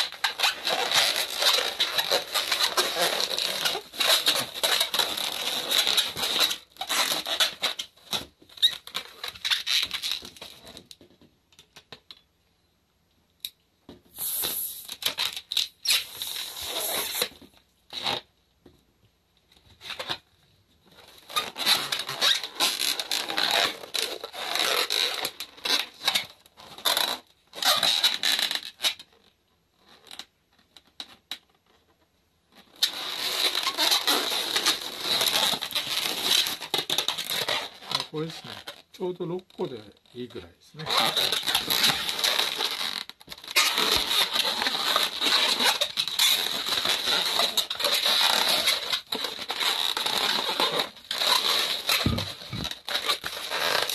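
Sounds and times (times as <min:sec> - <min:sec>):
balloons squeaking and rubbing: 0:00.0 - 0:10.8, 0:14.1 - 0:18.3, 0:19.8 - 0:20.3, 0:20.9 - 0:29.2, 0:29.9 - 0:31.2, 0:32.5 - 0:53.9.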